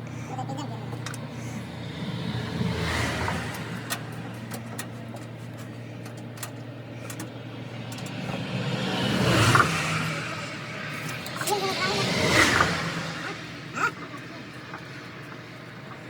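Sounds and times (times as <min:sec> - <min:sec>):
highway traffic passing: 0:00.0 - 0:16.0
low engine hum: 0:00.0 - 0:16.0.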